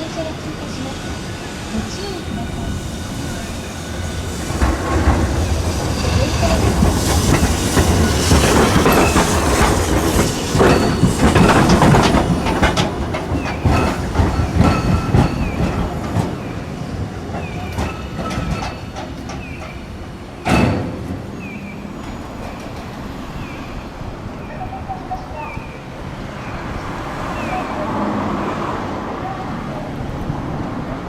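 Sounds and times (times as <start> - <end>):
streetcar wheels clacking on rails: 0.0 - 31.0.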